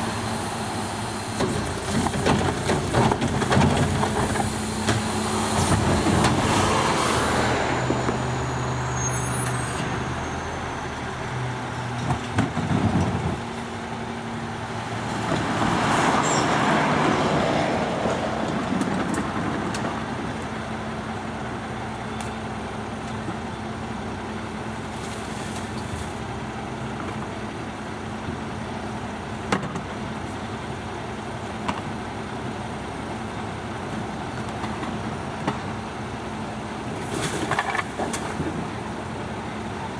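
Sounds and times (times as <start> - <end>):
garbage truck diesel engine: 0.0 - 39.9.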